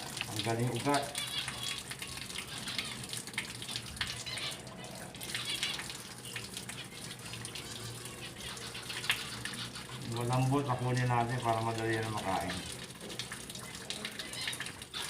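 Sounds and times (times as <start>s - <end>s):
plants rinsed by hand: 0.0s - 15.0s
water running from a tap: 0.0s - 15.0s.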